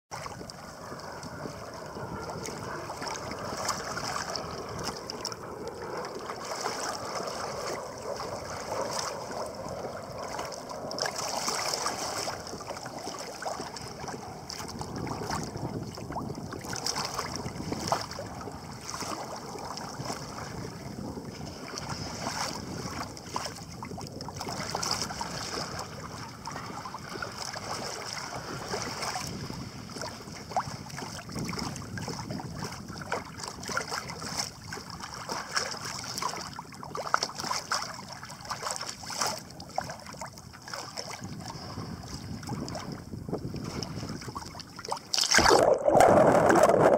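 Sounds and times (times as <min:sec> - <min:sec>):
rush of water: 0:00.1 - 0:46.9
water splashing against kayak: 0:00.1 - 0:46.9
wind on microphone: 0:00.1 - 0:46.9.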